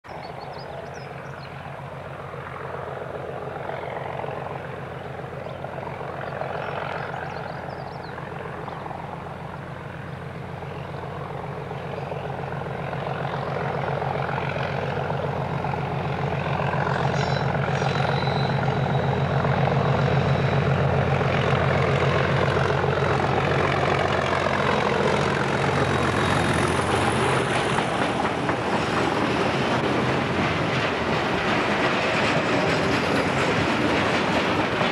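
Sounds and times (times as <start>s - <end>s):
diesel locomotive engine droning: 0.1s - 34.9s.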